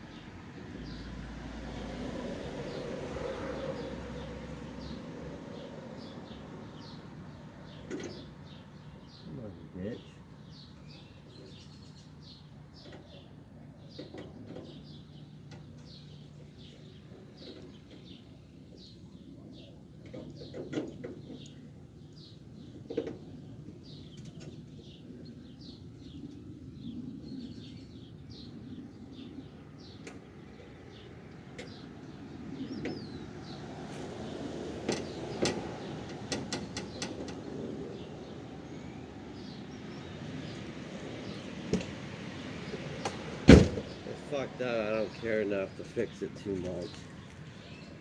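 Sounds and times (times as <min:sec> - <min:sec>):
small birds chirping: 0:02.7 - 0:48.0.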